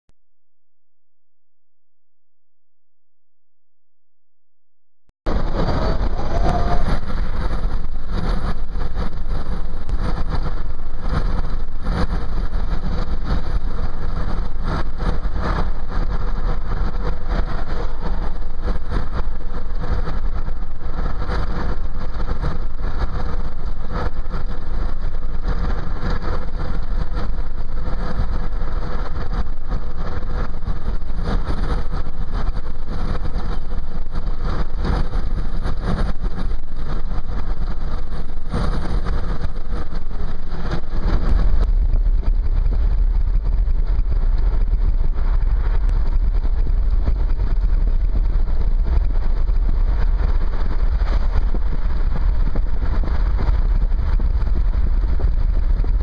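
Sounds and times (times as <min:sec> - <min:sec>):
car cabin road rumble: 0:05.3 - 0:56.0.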